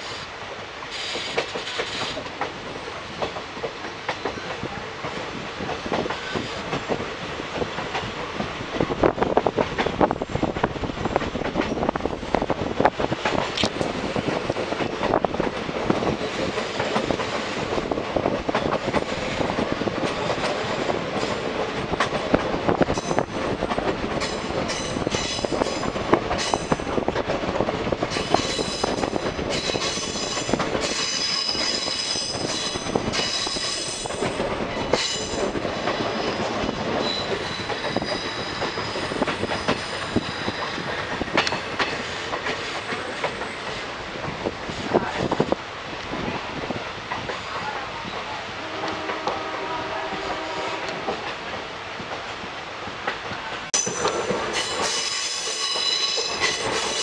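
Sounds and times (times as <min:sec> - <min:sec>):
train rumble and wheel clatter: 0:00.0 - 0:57.0.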